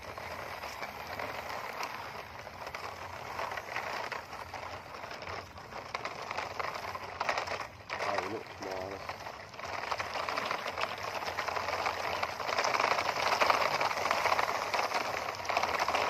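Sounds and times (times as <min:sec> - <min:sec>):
toy wheels rolling over gravel: 0:00.0 - 0:16.0.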